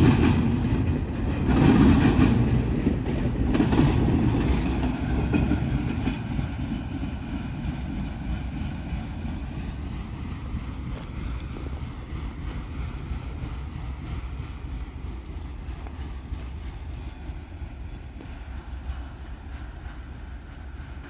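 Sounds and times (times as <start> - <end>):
freight train wheels clacking: 0.0 - 21.0.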